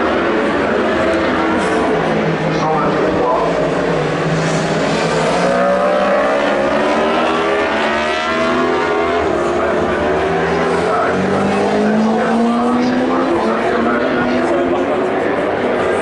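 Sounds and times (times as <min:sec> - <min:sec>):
racing motorbike engines revving: 0:00.0 - 0:16.0.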